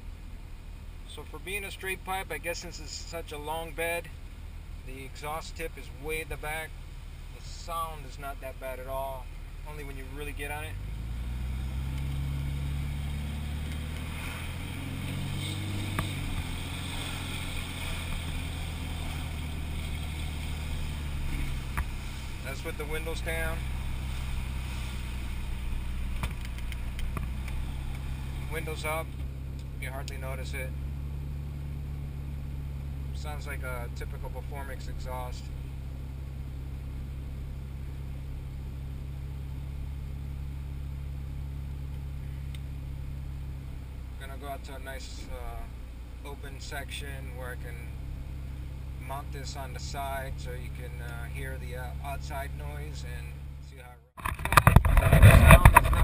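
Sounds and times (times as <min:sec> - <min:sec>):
diesel engine and exhaust drone: 0:00.0 - 0:56.0.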